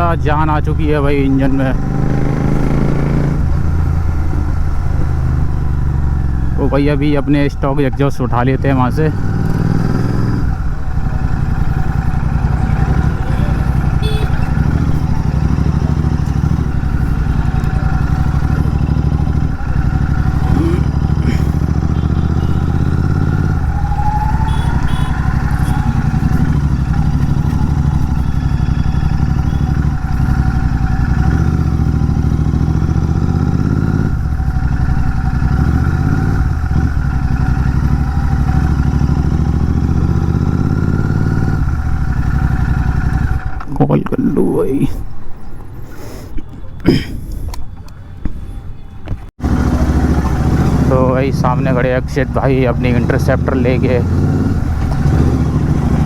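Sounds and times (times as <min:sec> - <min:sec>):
motorcycle engine running: 0:00.0 - 0:43.7, 0:49.4 - 0:56.0.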